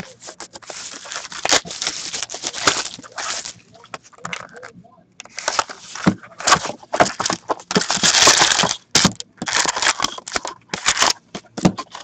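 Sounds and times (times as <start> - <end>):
foil packs rustling: 0.0 - 3.9, 5.3 - 12.0
cellophane crinkling: 0.0 - 12.0.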